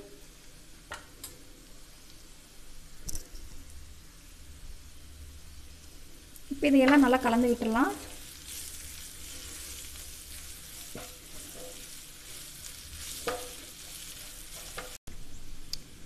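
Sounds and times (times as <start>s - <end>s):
vegetables sizzling in hot oil: 0.0s - 15.7s.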